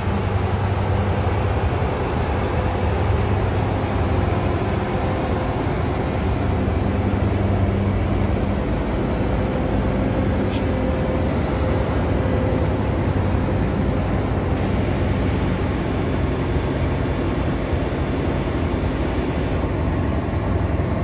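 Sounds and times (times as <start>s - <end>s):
fan and machinery noise: 0.0s - 21.0s
locomotive diesel engine drone: 0.0s - 21.0s.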